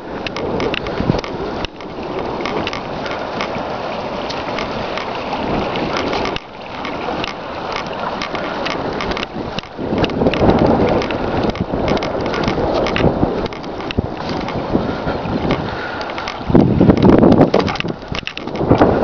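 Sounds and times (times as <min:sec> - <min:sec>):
stream babbling over stones: 0:00.0 - 0:19.0.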